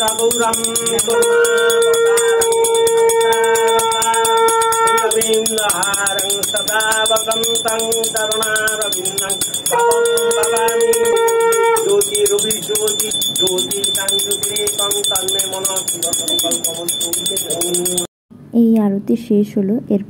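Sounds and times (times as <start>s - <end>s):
hand bell rung fast: 0.0s - 18.1s
long held notes: 0.0s - 18.1s.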